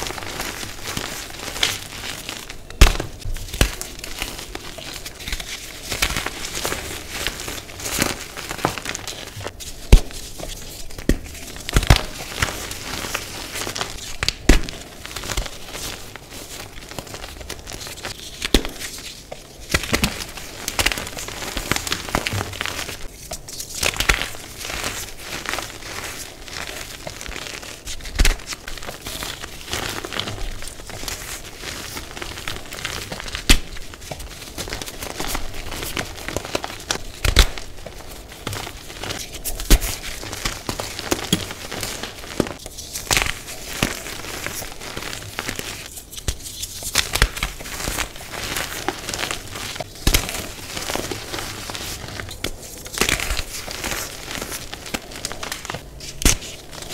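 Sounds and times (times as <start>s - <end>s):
chalk crunching and crumbling: 0.0s - 56.9s.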